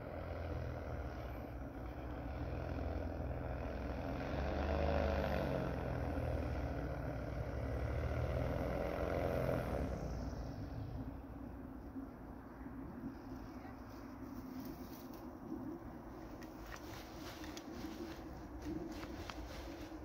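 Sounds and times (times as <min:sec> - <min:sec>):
paramotor engine droning: 0:00.0 - 0:20.0.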